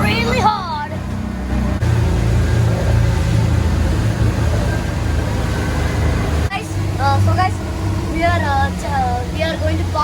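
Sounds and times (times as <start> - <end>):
motorboat engine humming: 0.0 - 10.0
wind and water rushing: 0.0 - 10.0.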